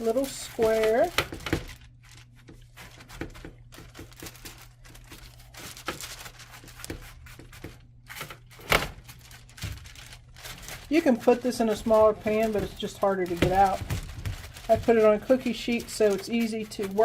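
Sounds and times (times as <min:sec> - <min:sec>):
faint electrical hum: 0:00.0 - 0:17.0
sticky mixture crinkling on wax paper: 0:00.0 - 0:17.0.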